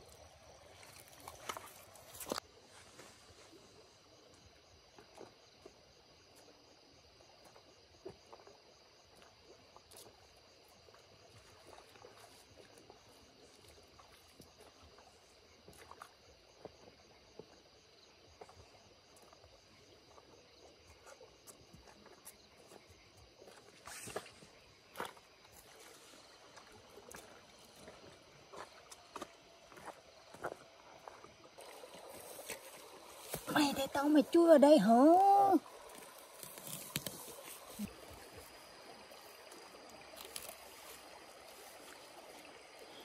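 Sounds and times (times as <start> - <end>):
small water sounds: 0.0 - 43.0.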